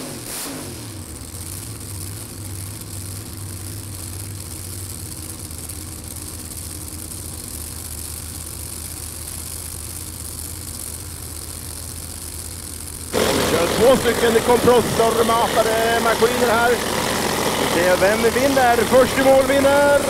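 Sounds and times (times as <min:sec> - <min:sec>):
drag racing engines idling: 0:00.0 - 0:20.0.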